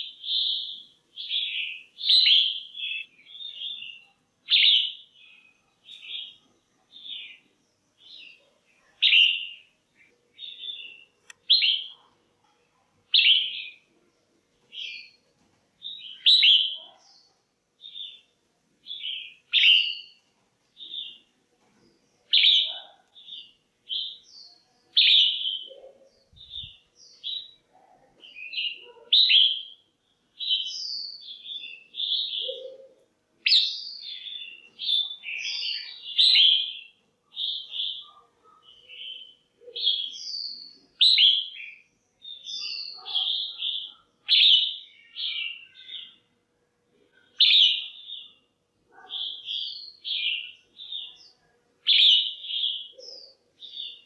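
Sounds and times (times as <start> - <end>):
bird chirping: 0.0 - 12.2, 13.1 - 13.9, 14.6 - 46.3, 47.1 - 54.0.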